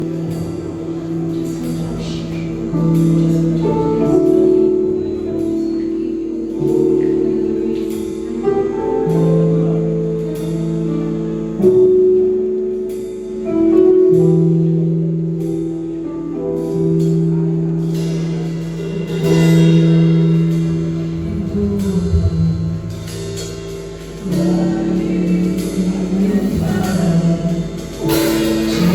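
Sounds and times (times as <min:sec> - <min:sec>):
held instrumental chords: 0:00.0 - 0:28.9.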